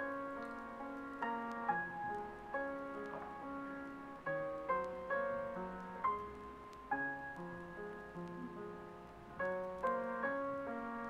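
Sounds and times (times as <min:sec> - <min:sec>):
slow soft piano music: 0:00.0 - 0:11.0.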